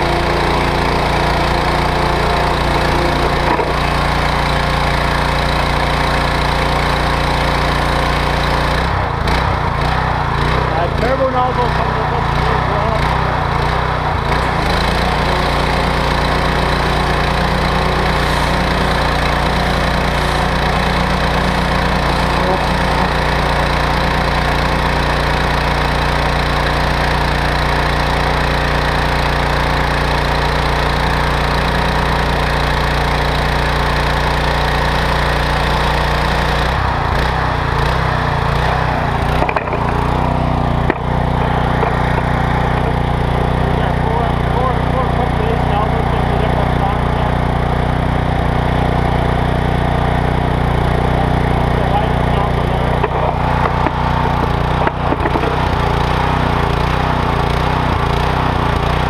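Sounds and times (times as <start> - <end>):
pressure washer engine running: 0.0 - 59.0.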